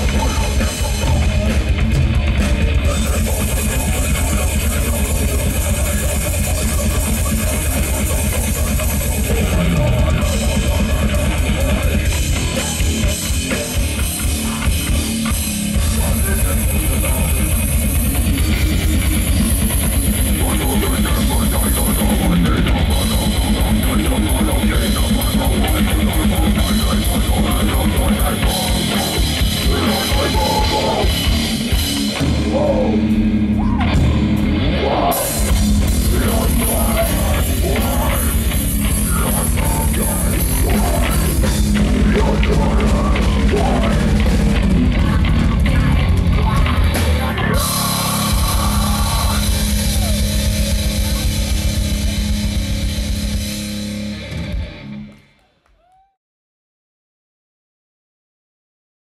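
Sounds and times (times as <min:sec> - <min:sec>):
fast dense drumming: 0:00.0 - 0:54.7
distorted electric guitar: 0:00.0 - 0:55.4
bass guitar: 0:00.0 - 0:55.5.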